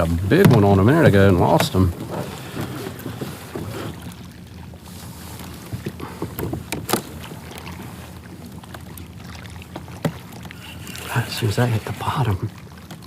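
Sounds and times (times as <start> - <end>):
water lapping against kayak hull: 0.0 - 13.0.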